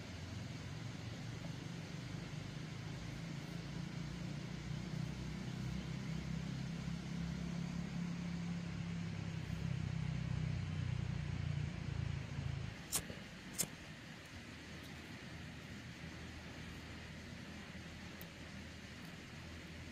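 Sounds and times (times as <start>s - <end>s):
low motor drone: 0.0s - 19.9s.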